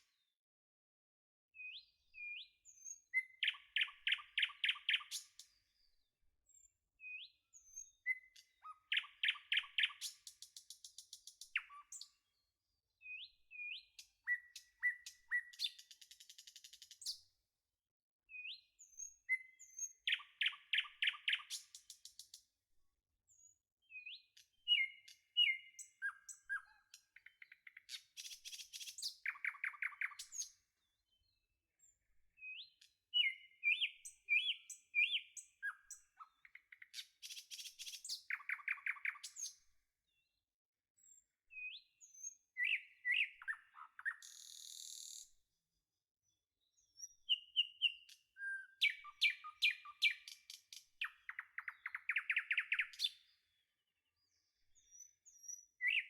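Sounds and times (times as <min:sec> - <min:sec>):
songbirds singing: 0:01.6 - 0:17.2, 0:18.3 - 0:22.4, 0:23.3 - 0:40.4, 0:41.0 - 0:45.4, 0:46.6 - 0:56.0.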